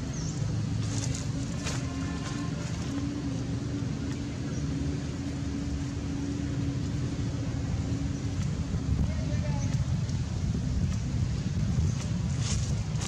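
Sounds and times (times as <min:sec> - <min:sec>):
steady low motor hum: 0:00.0 - 0:13.0.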